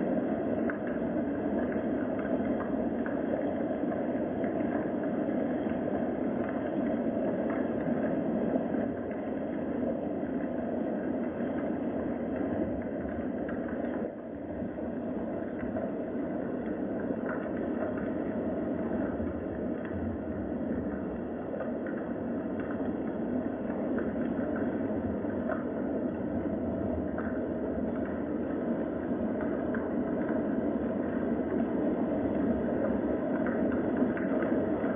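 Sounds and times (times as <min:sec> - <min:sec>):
faint rain patter: 0:00.0 - 0:34.9
steady rain: 0:00.0 - 0:34.9.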